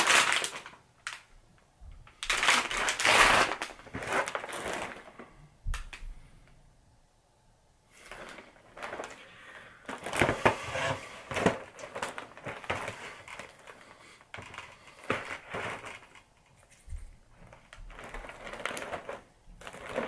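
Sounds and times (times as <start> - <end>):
plastic wrap crinkling: 0.0 - 1.3, 2.0 - 6.0, 8.0 - 20.0.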